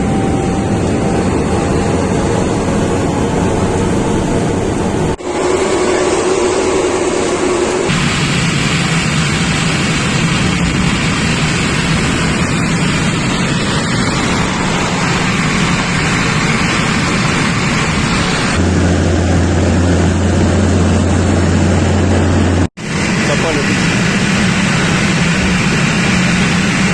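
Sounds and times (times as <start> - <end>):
aircraft jet engines: 0.0 - 26.9.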